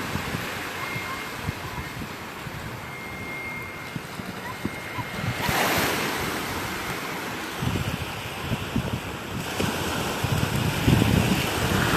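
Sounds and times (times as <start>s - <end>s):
surf washing onto beach: 0.0s - 11.9s
wind buffeting microphone: 0.0s - 11.9s.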